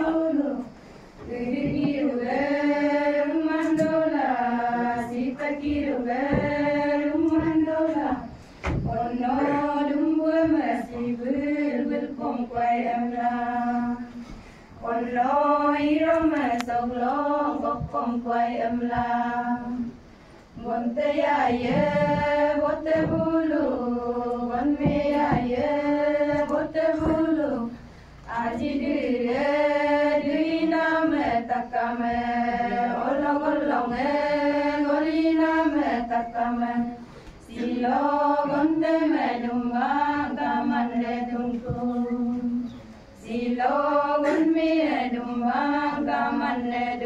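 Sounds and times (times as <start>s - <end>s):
women singing in unison: 0.0s - 47.0s.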